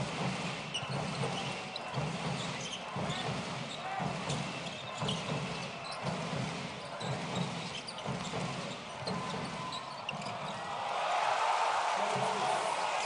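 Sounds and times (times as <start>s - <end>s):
arena crowd noise: 0.0s - 13.0s
basketball bouncing on hardwood: 0.1s - 10.6s.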